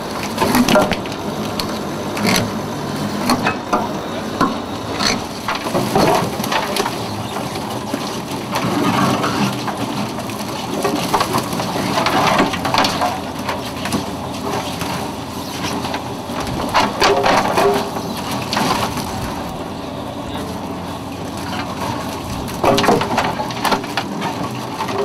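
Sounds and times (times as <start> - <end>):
net hauler clattering: 0.0 - 25.0.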